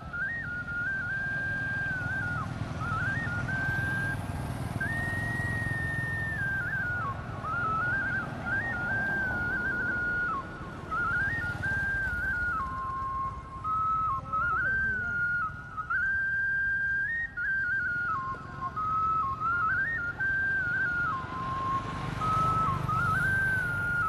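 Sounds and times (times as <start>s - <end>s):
whistled melody: 0.0s - 24.0s.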